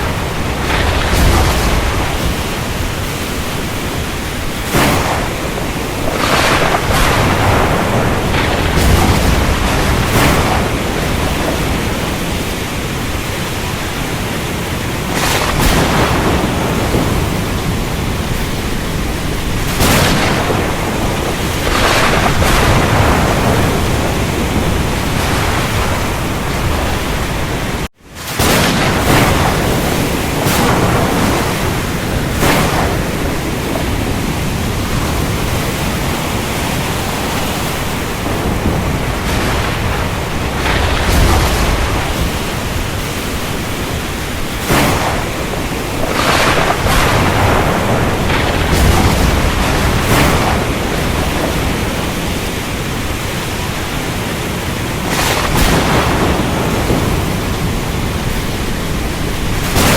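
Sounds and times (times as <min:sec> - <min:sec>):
heavy rain and thunderstorm: 0:00.0 - 0:59.9.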